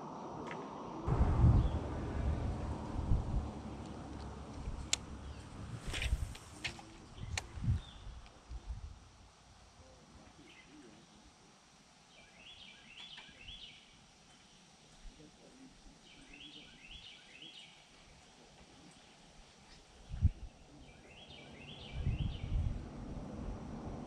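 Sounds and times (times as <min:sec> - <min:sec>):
songbird singing: 0:00.7 - 0:09.1, 0:09.8 - 0:22.8.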